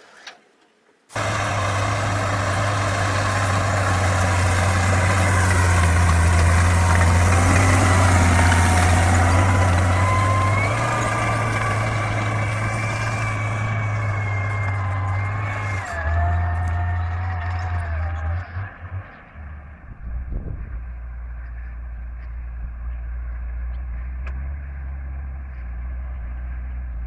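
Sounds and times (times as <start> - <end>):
tractor engine running under load: 1.1 - 27.0.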